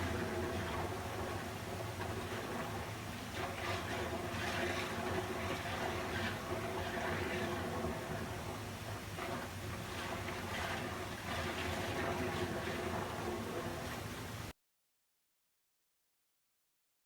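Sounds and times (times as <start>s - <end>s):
water flowing: 0.0s - 14.5s.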